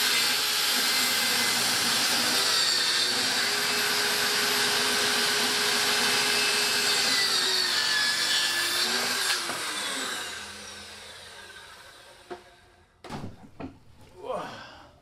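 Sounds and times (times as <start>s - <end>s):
power tool on plywood: 0.0s - 12.8s.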